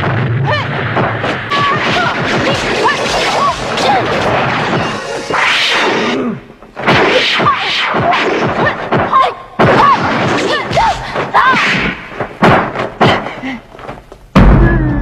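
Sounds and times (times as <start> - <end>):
punch and kick impacts: 0.0 - 4.9, 6.8 - 13.4, 14.3 - 15.0.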